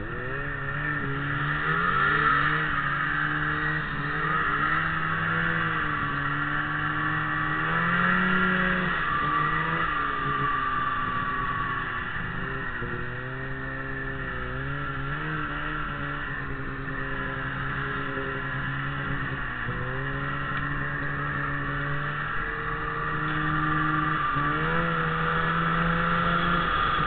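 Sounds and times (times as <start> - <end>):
snowmobile engine accelerating: 0.0 - 27.0.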